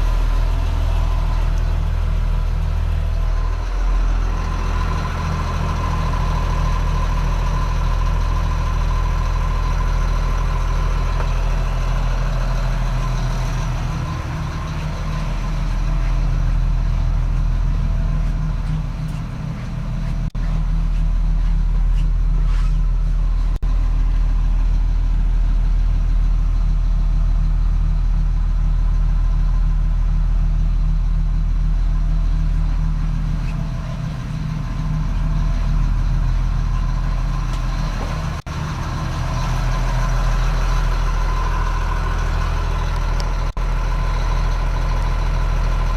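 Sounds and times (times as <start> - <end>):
bus engine idling: 0.0 - 45.9.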